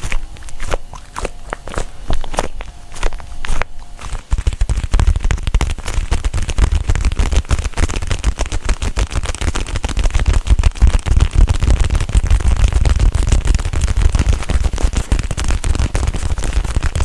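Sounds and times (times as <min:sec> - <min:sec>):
rapid tapping and crackling: 0:02.3 - 0:17.0.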